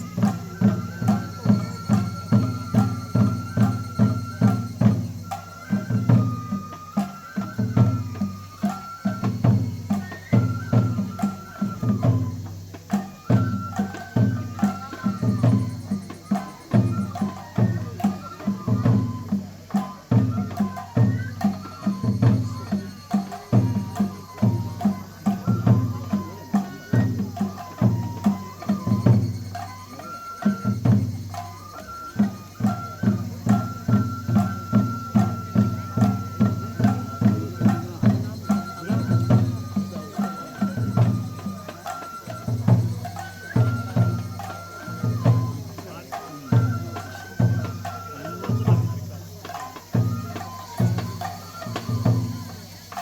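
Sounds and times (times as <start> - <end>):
bamboo flute melody: 0.0 - 53.0
taiko drums beating: 0.0 - 53.0.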